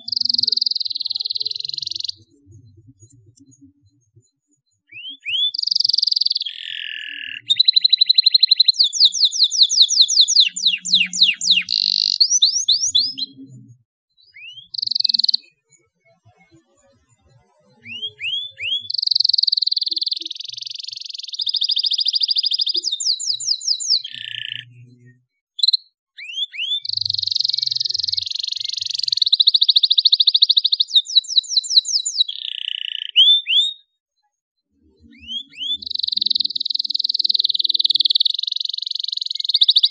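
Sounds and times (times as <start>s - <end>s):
canary singing trills: 0.0s - 34.0s, 34.8s - 39.9s.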